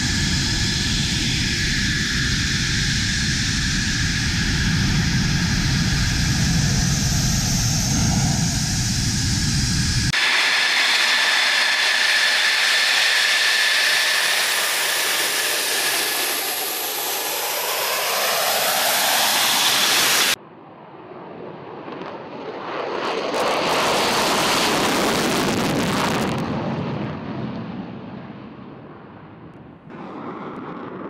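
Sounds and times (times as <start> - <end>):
jet engine whine: 0.0 - 31.0
jet taking off on afterburner: 0.0 - 31.0.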